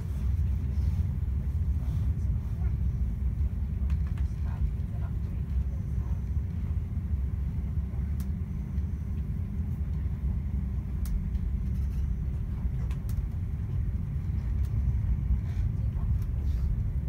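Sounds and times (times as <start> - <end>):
train rumbling at speed: 0.0 - 17.0.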